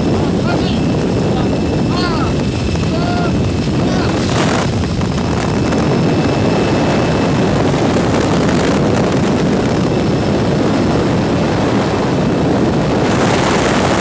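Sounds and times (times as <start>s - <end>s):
propeller engine drone: 0.0s - 14.0s
wind rushing: 0.0s - 14.0s.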